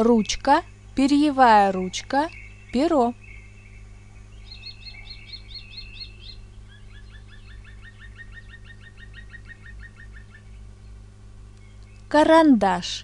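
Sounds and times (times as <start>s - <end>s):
bird chirping rapidly: 0.0s - 12.3s
faint birdsong: 0.0s - 13.0s
steady low hum: 0.0s - 13.0s.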